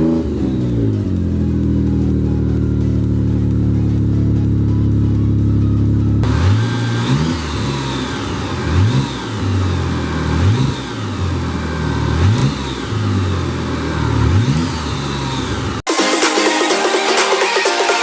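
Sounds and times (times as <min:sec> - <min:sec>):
turbocharged car engine revving: 0:00.0 - 0:15.9.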